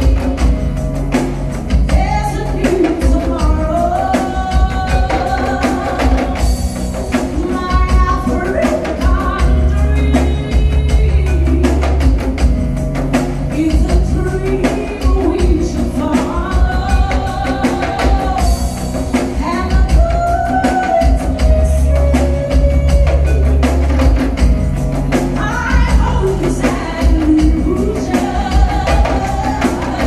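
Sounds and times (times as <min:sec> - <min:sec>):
drums: 0:00.0 - 0:30.0
rattling hand percussion: 0:00.0 - 0:30.0.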